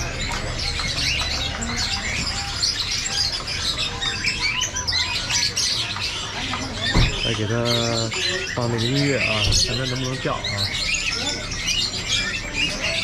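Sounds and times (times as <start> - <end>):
caged songbirds chirping: 0.0 - 13.0.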